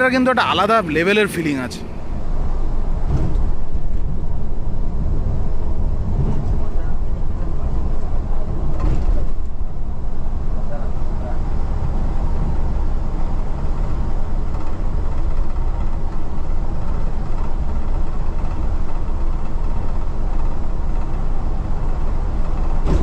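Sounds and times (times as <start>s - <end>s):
low rumble of vehicle noise: 0.0s - 23.0s.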